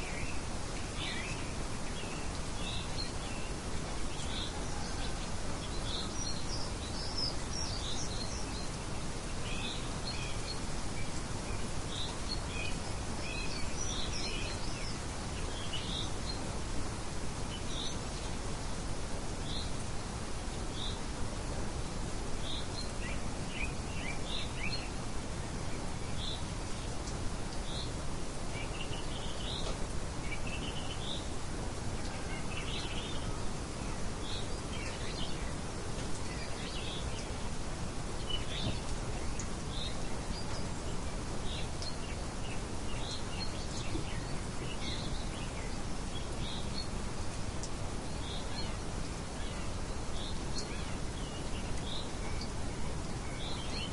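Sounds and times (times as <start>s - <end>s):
background hiss: 0.0s - 53.9s
birds chirping: 0.0s - 53.9s.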